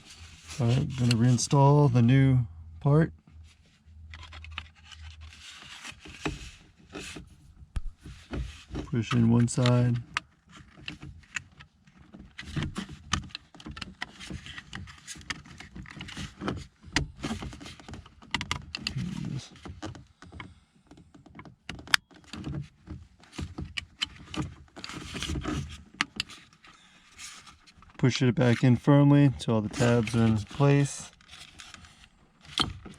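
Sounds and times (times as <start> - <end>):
hard plastic clicking and rubbing: 0.0 - 2.0, 3.4 - 32.9.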